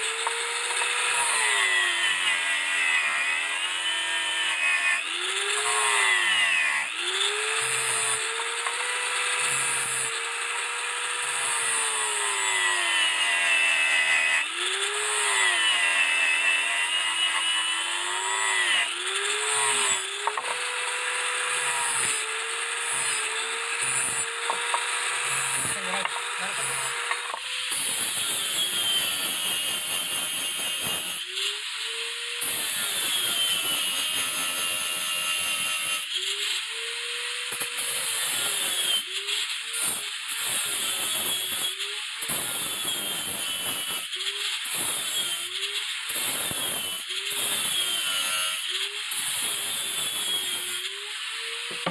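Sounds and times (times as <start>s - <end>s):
power tool grinding metal: 0.0s - 51.9s.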